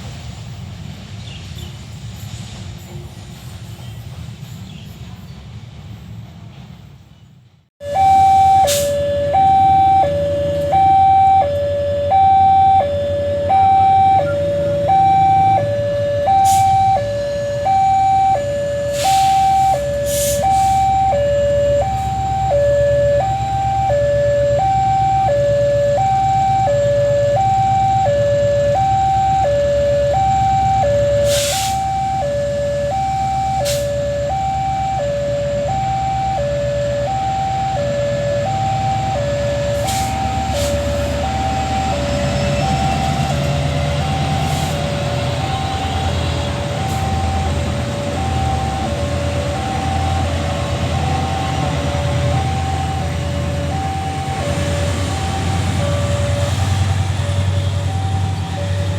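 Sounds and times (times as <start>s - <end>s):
passing train rumble: 0.0s - 58.9s
two-tone level-crossing alarm: 7.8s - 57.0s, 57.7s - 58.9s.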